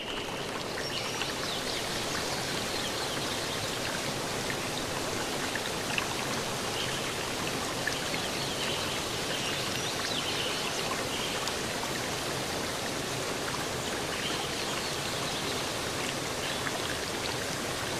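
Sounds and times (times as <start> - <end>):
running water rushing: 0.0 - 17.9.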